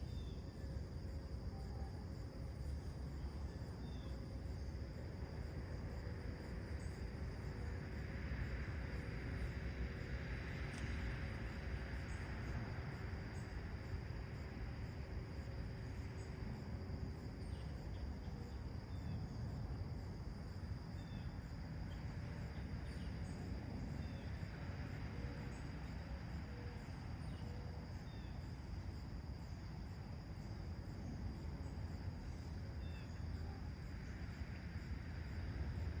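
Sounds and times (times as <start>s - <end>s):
low background rumble: 0.0s - 36.0s.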